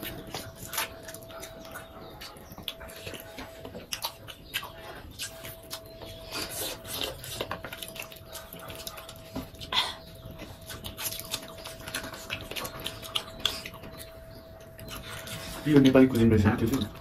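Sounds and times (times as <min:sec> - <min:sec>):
people chewing and lip smacking: 0:00.0 - 0:17.0.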